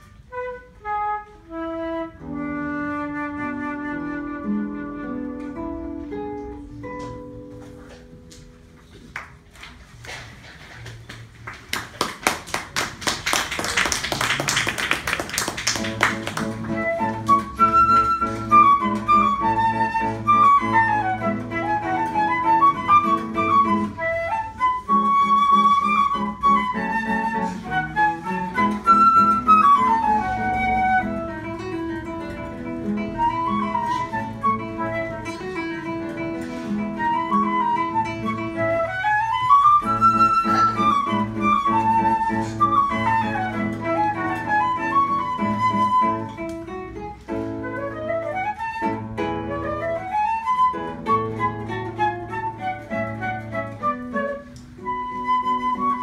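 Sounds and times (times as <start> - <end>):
flute melody: 0.0 - 8.0, 15.7 - 56.0
classical guitar playing: 0.0 - 9.1, 15.6 - 56.0.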